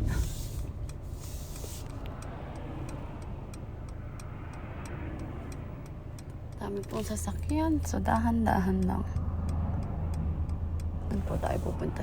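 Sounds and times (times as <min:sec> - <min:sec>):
car engine and tyres rumbling: 0:00.0 - 0:12.0
rapid even ticking: 0:00.0 - 0:12.0.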